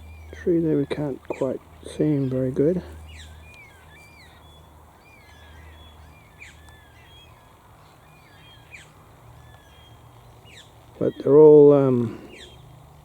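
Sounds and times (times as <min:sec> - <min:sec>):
birds chirping and whistling: 0:00.0 - 0:12.9.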